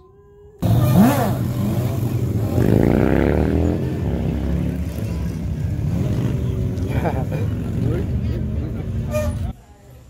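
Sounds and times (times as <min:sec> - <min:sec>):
motorcycle engine revving: 0:00.6 - 0:09.5.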